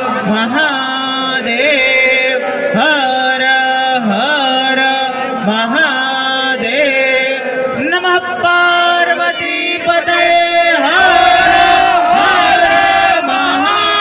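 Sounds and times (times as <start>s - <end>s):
devotional chant in long held notes: 0.0s - 14.0s.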